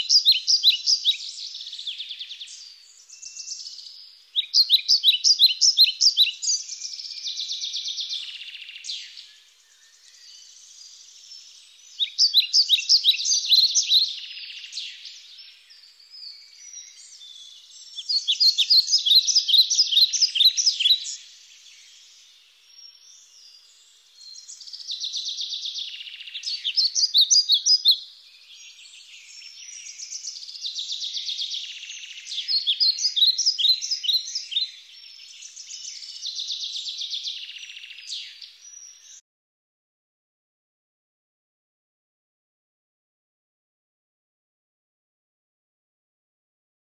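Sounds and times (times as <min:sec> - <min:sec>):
songbird singing: 0:00.0 - 0:39.2.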